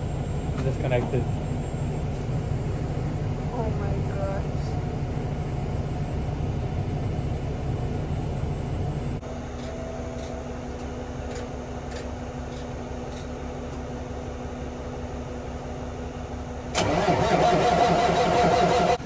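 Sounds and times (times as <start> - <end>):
low machine hum and rumble: 0.0 - 17.4.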